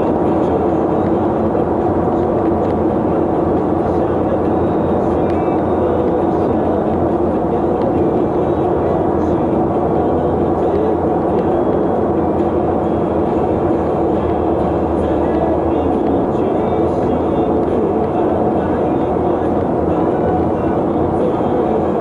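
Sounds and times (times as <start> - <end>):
vehicle driving on road: 0.0 - 22.0.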